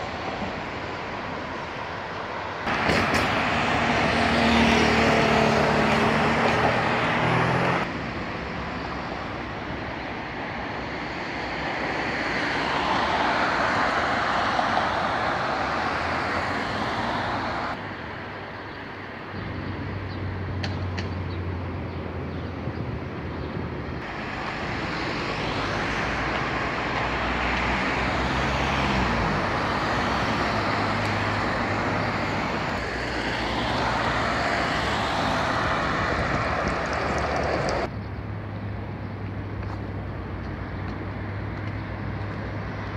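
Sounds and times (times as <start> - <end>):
cars passing: 0.0 - 42.9.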